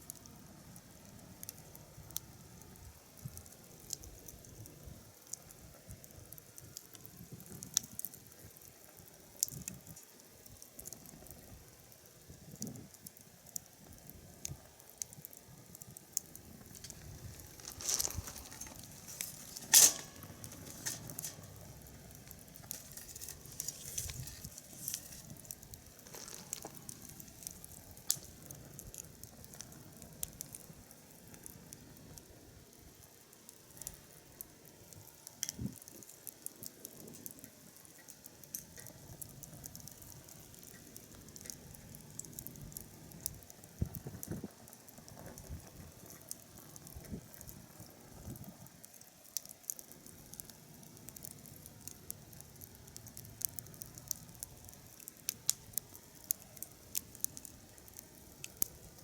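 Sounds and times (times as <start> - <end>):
firewood crackling: 0.0 - 59.0
sharp pops of fire: 0.1 - 59.0.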